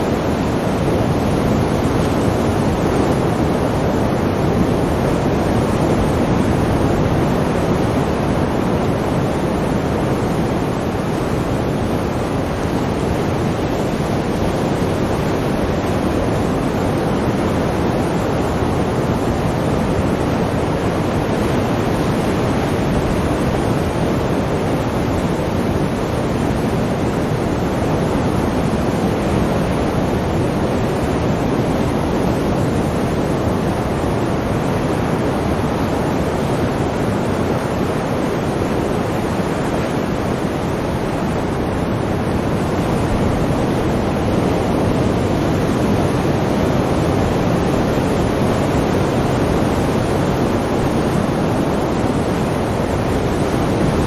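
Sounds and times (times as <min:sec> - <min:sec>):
sea surf rushing: 0:00.0 - 0:54.0.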